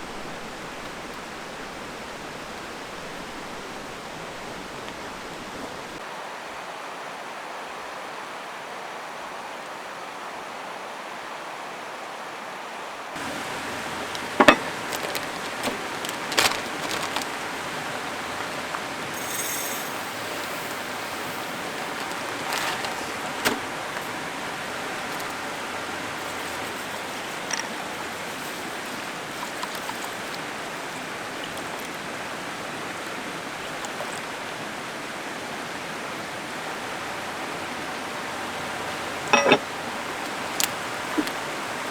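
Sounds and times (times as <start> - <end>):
stream flowing: 0.0 - 6.4, 13.2 - 41.9.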